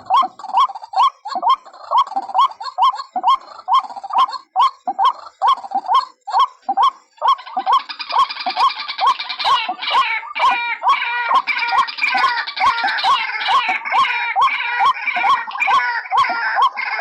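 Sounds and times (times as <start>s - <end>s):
harsh raspy bird calling: 0.0s - 17.0s
waterhen calling: 0.0s - 17.0s.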